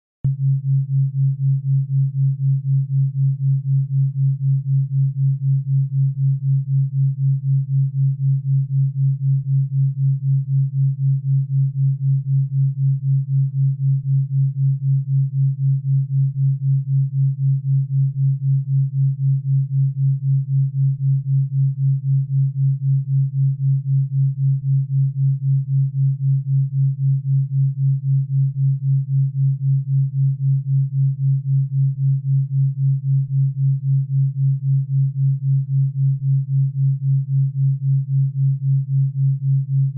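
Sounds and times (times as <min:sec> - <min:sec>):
pulsing low pure hum: 0:00.2 - 0:39.9.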